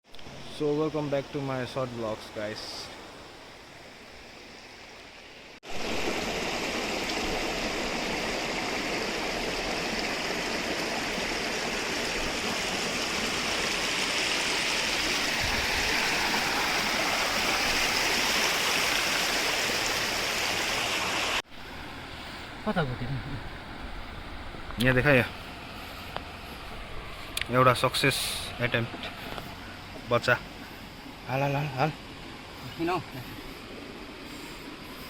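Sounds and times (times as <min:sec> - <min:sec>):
stream water rushing: 0:00.1 - 0:35.0.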